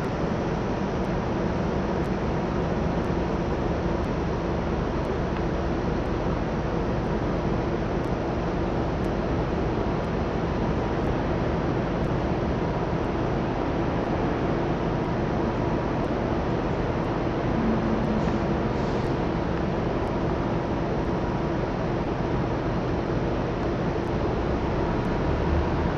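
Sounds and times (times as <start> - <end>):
distant city traffic rumble: 0.0 - 25.9.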